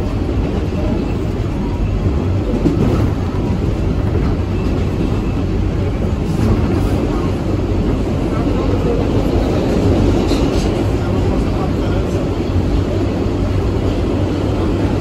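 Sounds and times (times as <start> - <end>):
stationary subway train humming: 0.0 - 15.0.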